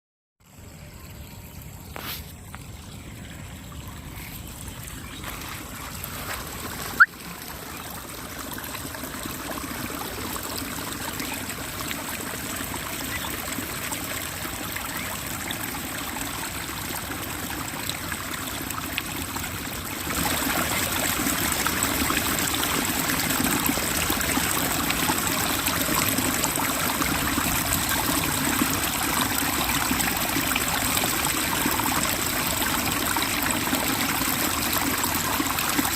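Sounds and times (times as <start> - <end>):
water running and trickling: 0.4 - 35.9.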